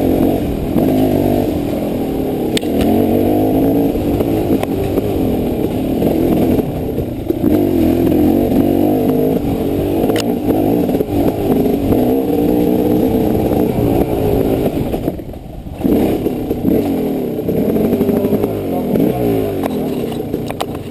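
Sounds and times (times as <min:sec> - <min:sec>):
dirt bike engine revving: 0:00.0 - 0:20.9.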